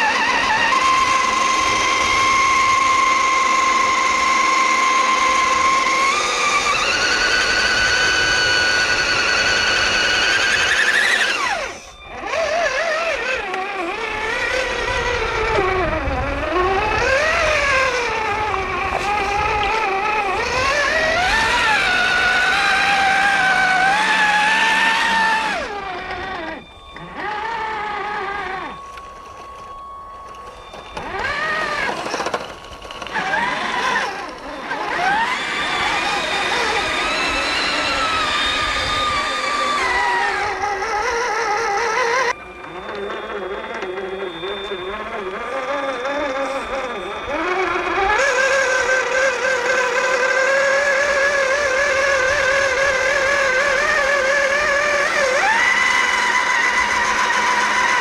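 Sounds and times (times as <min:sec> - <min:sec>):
rc truck electric motor whine: 0:00.0 - 0:58.0.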